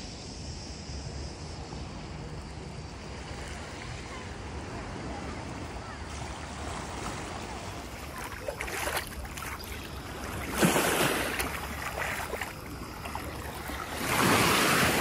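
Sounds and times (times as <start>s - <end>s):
small waves washing on shore: 2.8s - 15.0s.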